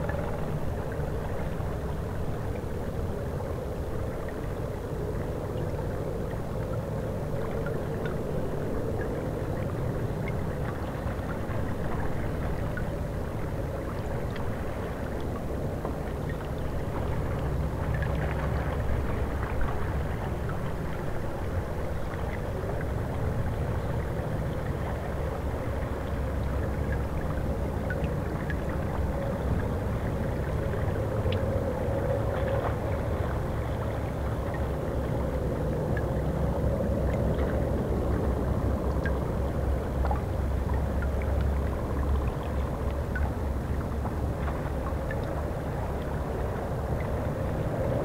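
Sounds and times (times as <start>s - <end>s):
river water lapping against ice: 0.0s - 48.0s.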